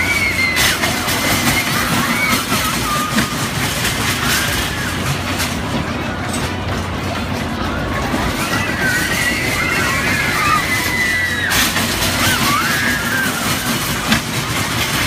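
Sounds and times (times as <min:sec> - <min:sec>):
children squealing: 0:00.0 - 0:05.3, 0:08.1 - 0:15.0
fairground noise: 0:00.0 - 0:15.0
roller coaster cars rattling: 0:00.0 - 0:15.0.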